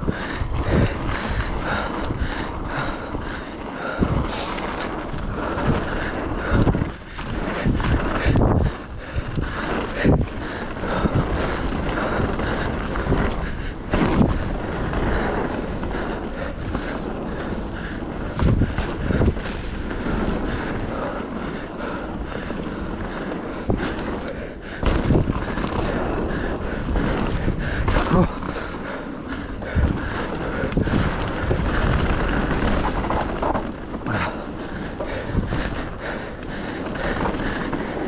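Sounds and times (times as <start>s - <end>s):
bike knocking and rattling: 0.0s - 38.0s
wind rushing over microphone: 0.0s - 38.0s.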